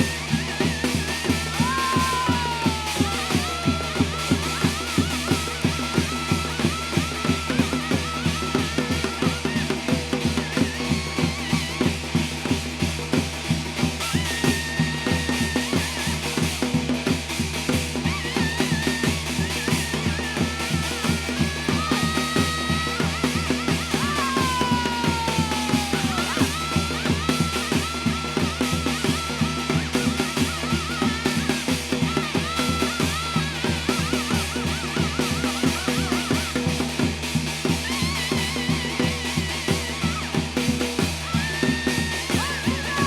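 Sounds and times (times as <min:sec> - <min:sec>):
fast steady drumming: 0:00.0 - 0:43.0.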